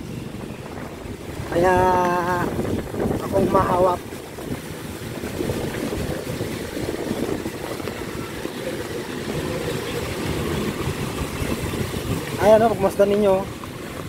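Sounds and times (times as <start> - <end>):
rain hiss: 0.0 - 14.0
wind buffeting microphone: 0.0 - 14.0.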